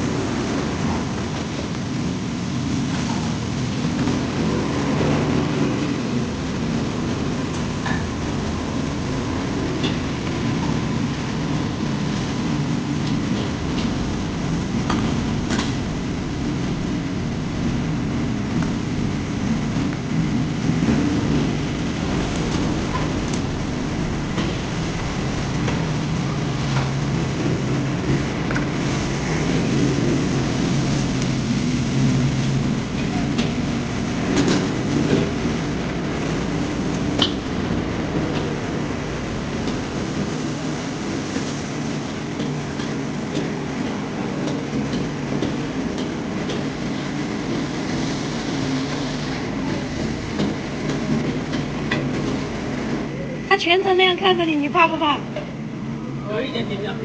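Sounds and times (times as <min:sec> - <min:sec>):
low hum: 0:00.0 - 0:56.2
extractor fans: 0:00.0 - 0:57.0
gas burner roaring: 0:00.0 - 0:57.0.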